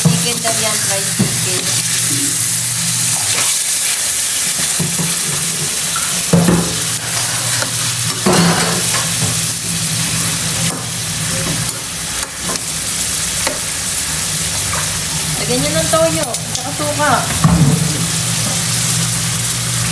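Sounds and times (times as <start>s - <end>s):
chicken sizzling in hot oil: 0.0s - 19.9s.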